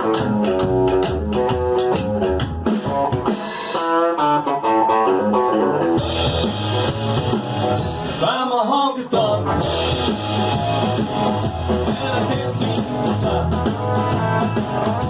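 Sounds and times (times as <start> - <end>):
electric guitar lead: 0.0 - 8.2, 9.2 - 15.0
drum kit: 0.0 - 8.3, 9.5 - 15.0
bass guitar: 0.0 - 15.0.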